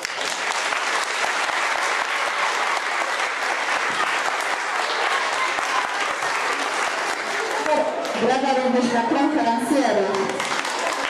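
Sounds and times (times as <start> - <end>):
audience applauding: 0.0 - 8.3, 10.2 - 11.0.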